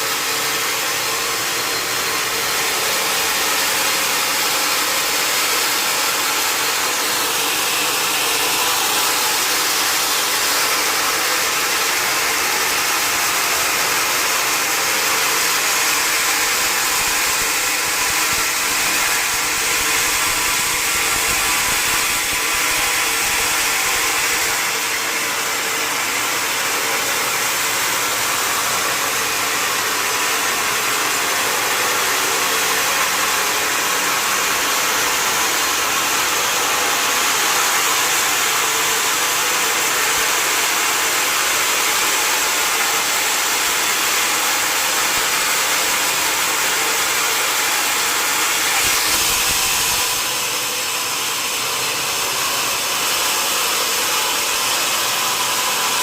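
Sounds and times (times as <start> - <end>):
sawmill machinery whirring: 0.0 - 56.0.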